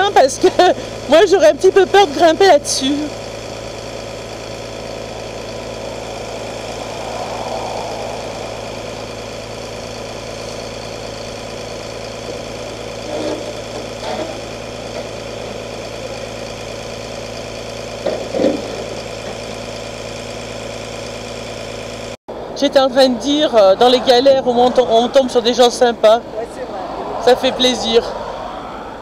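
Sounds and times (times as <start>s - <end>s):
diesel engine idling: 0.0s - 28.6s.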